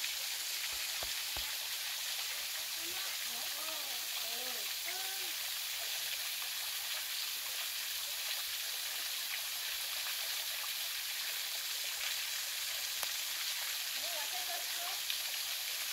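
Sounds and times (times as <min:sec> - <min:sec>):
small waterfall splashing into pool: 0:00.0 - 0:15.9.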